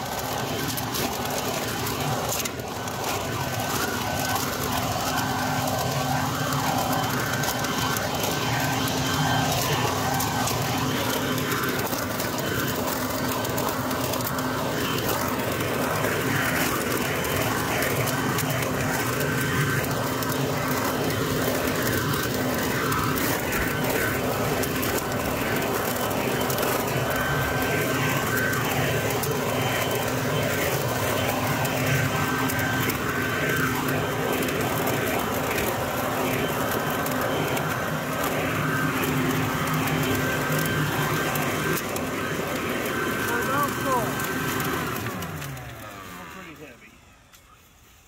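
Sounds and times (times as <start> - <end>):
dry leaves rattling in tube: 0.0 - 46.6
leaf blower vacuum humming: 0.0 - 48.0.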